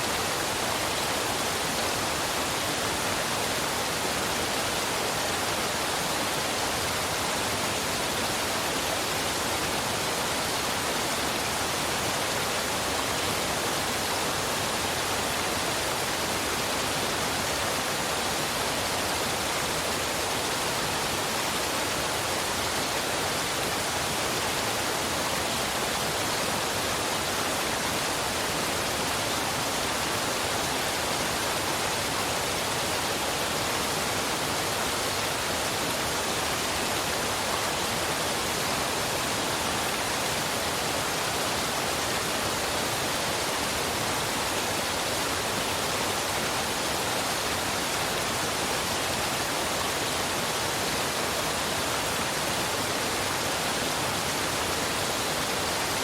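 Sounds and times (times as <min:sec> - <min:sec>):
waterfall and river rushing: 0:00.0 - 0:56.0.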